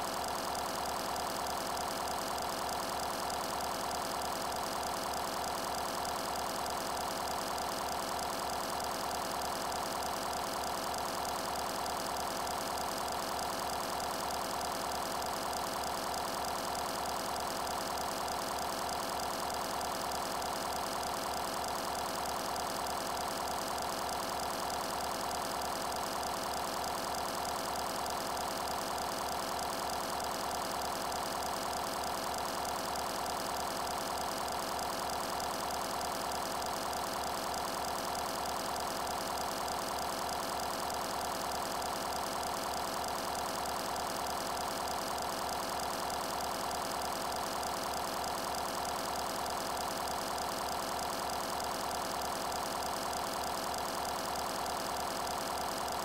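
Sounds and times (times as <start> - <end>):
mechanical hum with fast pulse: 0.0 - 56.0.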